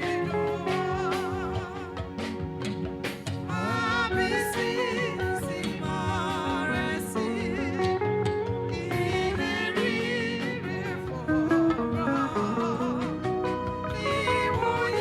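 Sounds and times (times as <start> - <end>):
guitar melody: 0.0 - 15.0
steady bass line: 0.0 - 15.0.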